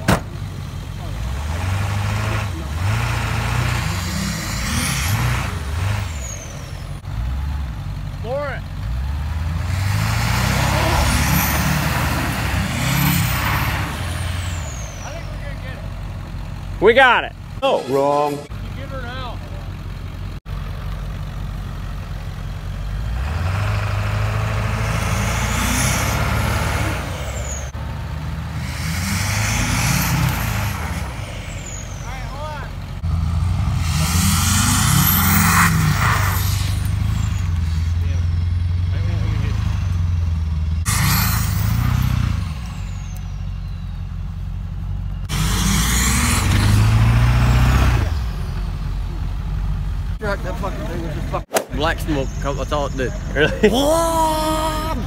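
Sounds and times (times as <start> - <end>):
diesel truck engines revving: 0.0 - 55.0.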